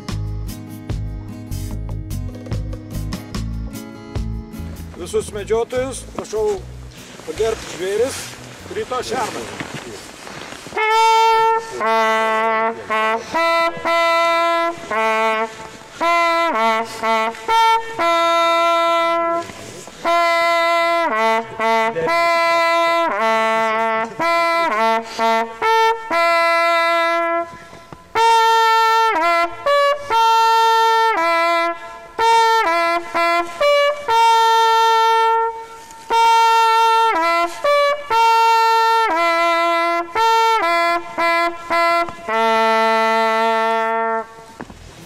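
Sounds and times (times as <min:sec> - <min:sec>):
hunting horn call: 0:06.0 - 0:44.6.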